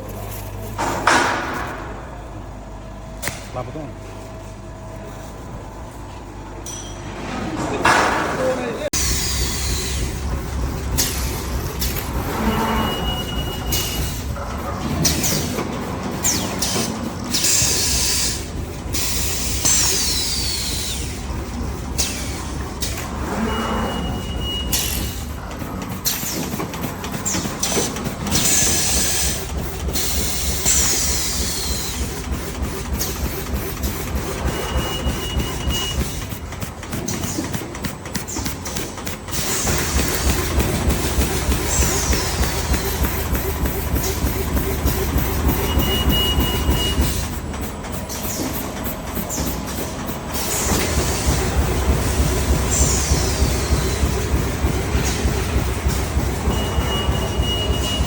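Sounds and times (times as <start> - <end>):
bag-making machine pulsing: 8.5 - 58.0.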